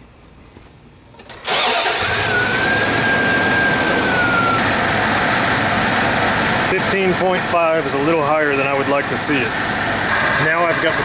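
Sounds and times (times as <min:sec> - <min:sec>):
engine starting and running: 0:01.2 - 0:11.0
high steady whine: 0:02.1 - 0:11.0.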